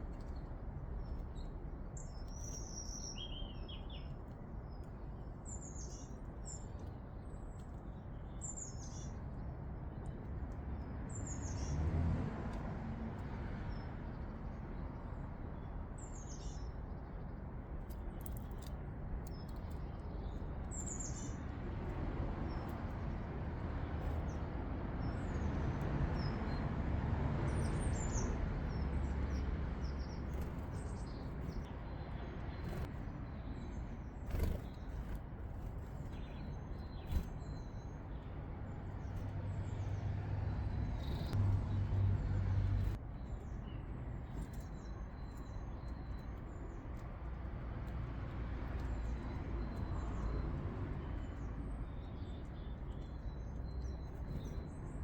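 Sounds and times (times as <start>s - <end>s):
small birds chirping: 0.0s - 11.8s, 13.2s - 26.8s, 27.5s - 55.0s.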